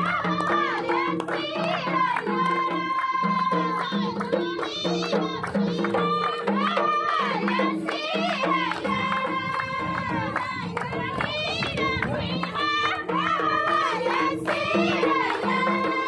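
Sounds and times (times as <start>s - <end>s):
folk singing: 0.0s - 16.0s
percussion: 0.0s - 16.0s.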